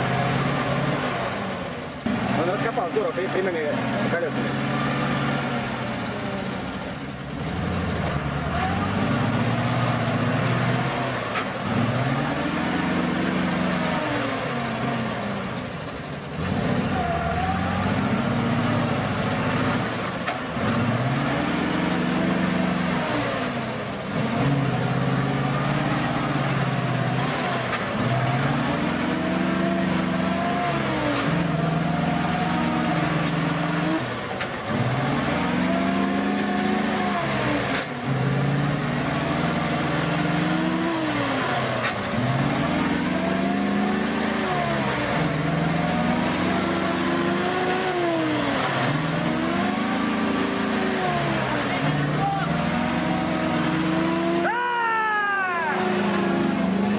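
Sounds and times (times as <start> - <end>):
truck engine revving: 0.0 - 56.9.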